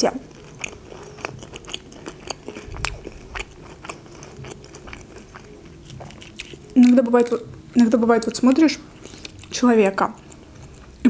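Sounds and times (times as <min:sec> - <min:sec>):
person chewing food: 0:00.2 - 0:07.8, 0:08.9 - 0:09.5, 0:10.1 - 0:11.0.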